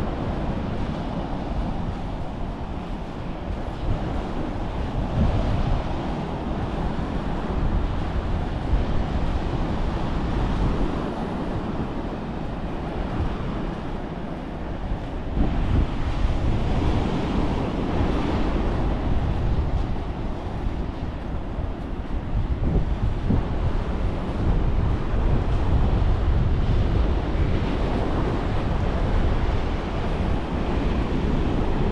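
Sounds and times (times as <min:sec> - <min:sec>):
ocean surf washing: 0:00.0 - 0:31.9
wind buffeting microphone: 0:00.0 - 0:31.9.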